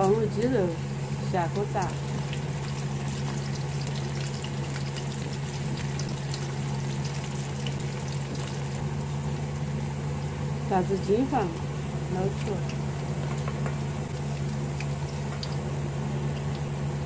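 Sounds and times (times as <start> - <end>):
oil sizzling and crackling: 0.0 - 17.0.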